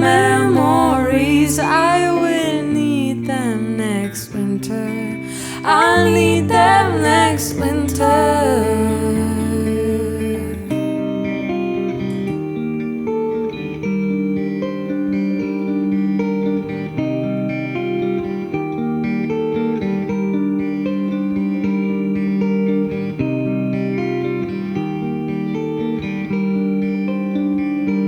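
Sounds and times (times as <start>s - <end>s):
guitar playing chords: 0.0s - 28.0s.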